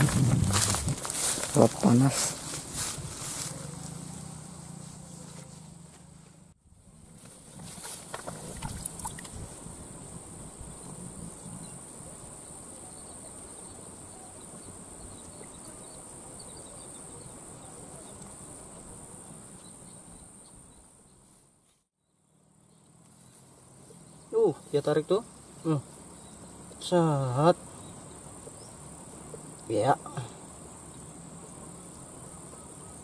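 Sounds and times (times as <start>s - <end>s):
insects chirring: 0.0s - 21.4s, 22.1s - 33.0s.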